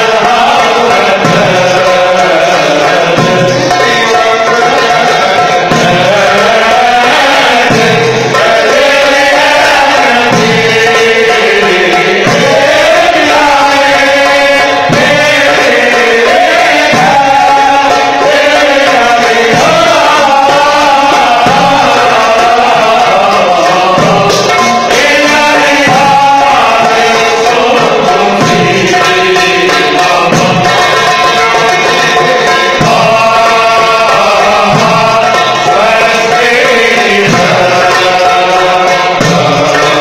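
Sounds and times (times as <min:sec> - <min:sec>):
frame drum: 0:00.0 - 0:40.0
men chanting through a pa: 0:00.0 - 0:40.0.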